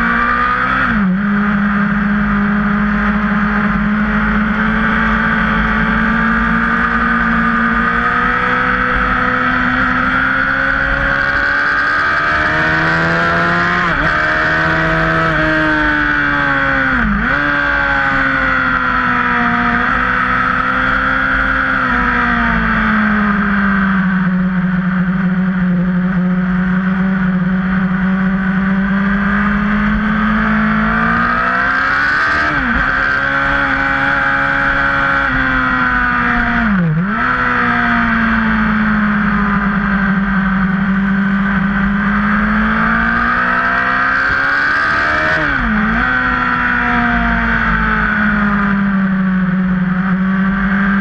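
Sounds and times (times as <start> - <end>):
motorbike engine at high revs: 0.0 - 51.0.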